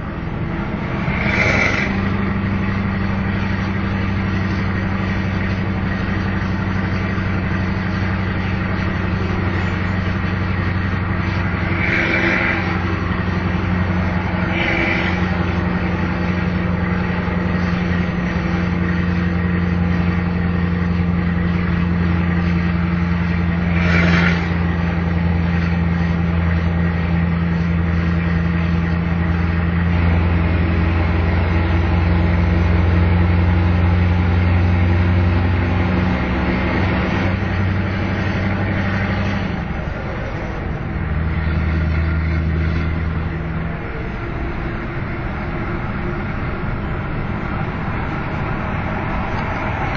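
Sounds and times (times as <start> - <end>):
diesel truck engine under load: 0.0 - 49.9.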